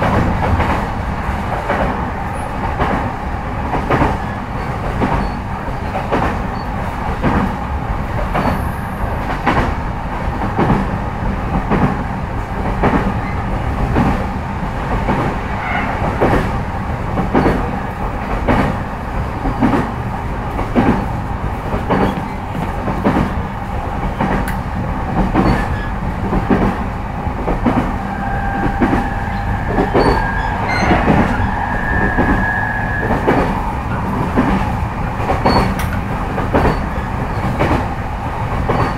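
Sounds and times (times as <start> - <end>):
wheel and rail rumble: 0.0 - 38.9.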